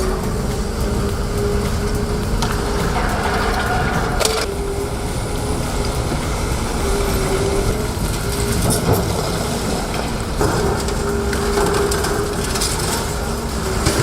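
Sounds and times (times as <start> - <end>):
diesel demolition machinery running: 0.0 - 14.0
machinery whine: 0.0 - 14.0.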